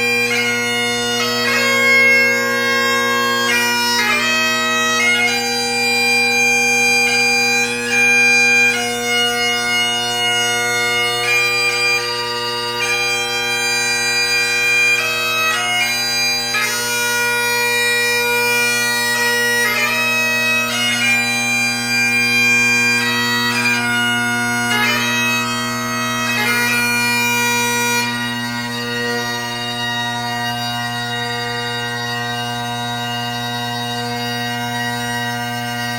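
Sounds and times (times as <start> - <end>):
bagpipe chanter melody: 0.0 - 35.9
bagpipe drones: 0.0 - 35.9.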